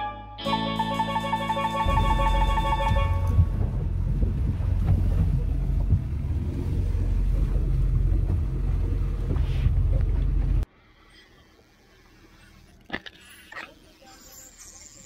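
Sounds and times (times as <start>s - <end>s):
boat engine low rumble: 0.6s - 12.8s.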